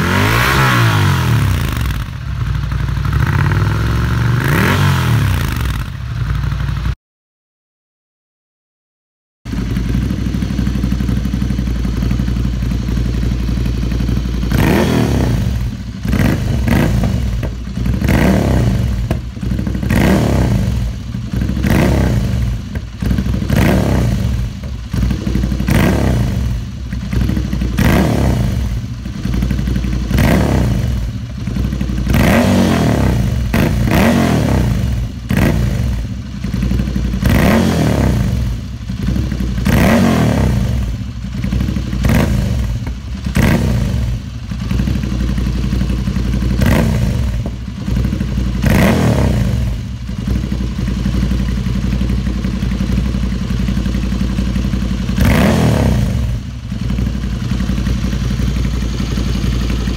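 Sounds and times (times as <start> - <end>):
motorcycle engine idling and revving: 0.0 - 7.0, 9.5 - 59.9.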